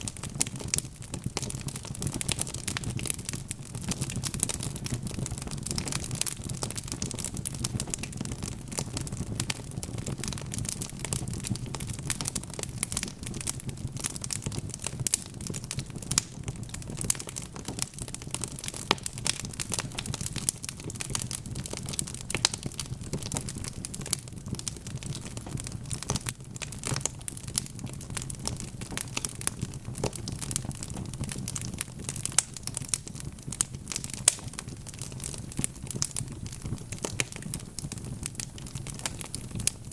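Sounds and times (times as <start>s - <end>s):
logs crackling in a fireplace: 0.0s - 39.9s.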